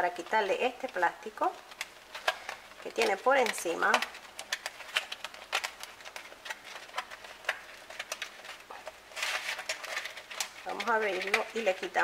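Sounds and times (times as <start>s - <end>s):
plastic cover crinkling and clicking: 0.0s - 12.0s
plastic rustling: 0.0s - 12.0s.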